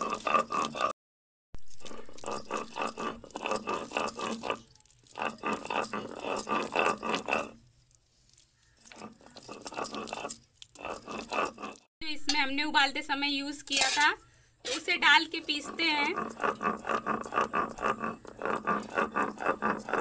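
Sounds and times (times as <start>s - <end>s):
stone roller grinding on stone slab: 0.0s - 1.0s, 1.6s - 12.4s, 13.5s - 20.0s.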